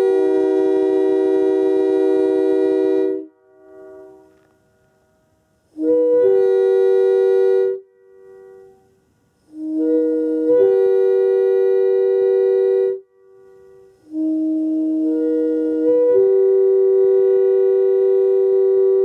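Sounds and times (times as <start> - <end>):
three-chime air horn blasts: 0.0 - 19.0.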